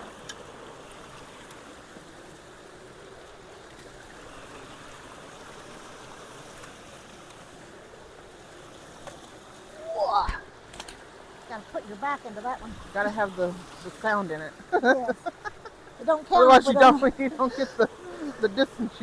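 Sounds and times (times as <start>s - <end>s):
water rushing through a culvert: 0.0s - 19.0s.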